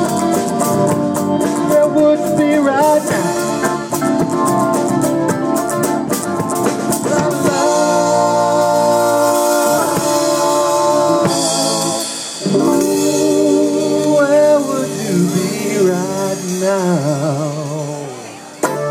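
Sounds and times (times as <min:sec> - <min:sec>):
rock band playing: 0:00.0 - 0:18.9.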